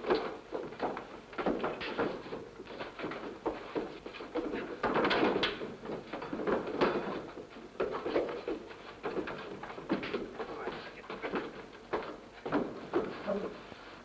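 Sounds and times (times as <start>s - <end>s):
punches thumping and scuffling: 0.0s - 13.6s
bodies bumping into furniture: 0.0s - 13.7s.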